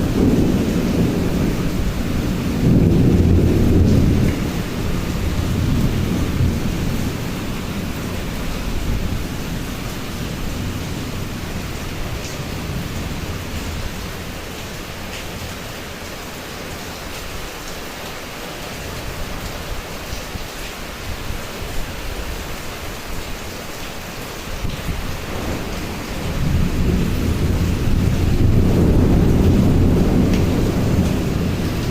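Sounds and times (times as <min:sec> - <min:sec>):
steady rain: 0:00.0 - 0:31.9.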